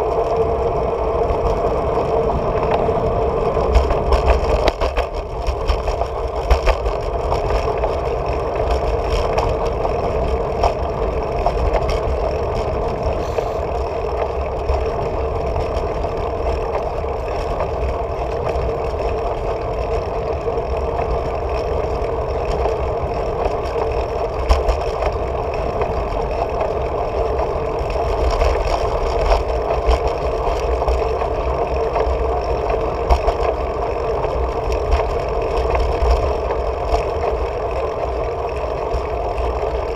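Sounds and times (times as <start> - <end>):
bicycle rolling on asphalt: 0.0 - 39.9
wind rumbling on camera: 0.0 - 39.9.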